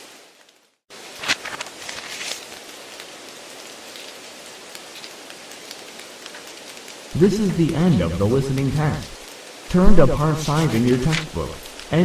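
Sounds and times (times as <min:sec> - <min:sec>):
steady hiss with crackles: 0:00.0 - 0:12.0.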